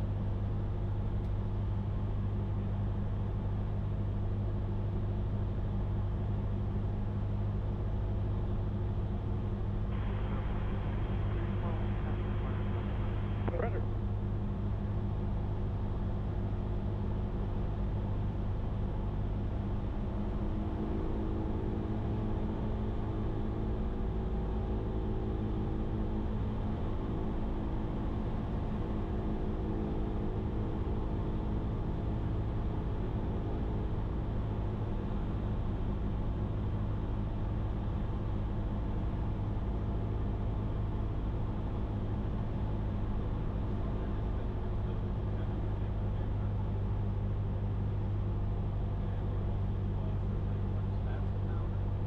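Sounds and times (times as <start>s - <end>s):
propeller plane engine droning: 0.0s - 52.0s.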